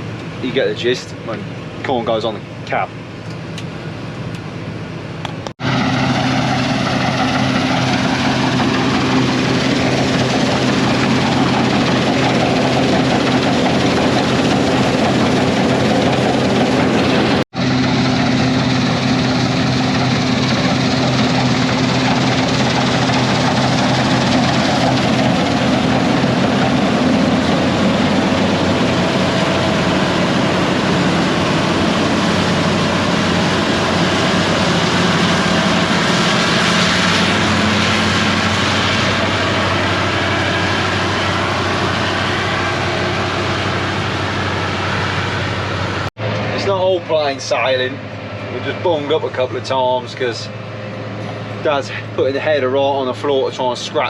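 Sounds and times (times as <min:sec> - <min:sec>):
diesel machinery droning: 0:00.0 - 0:54.0.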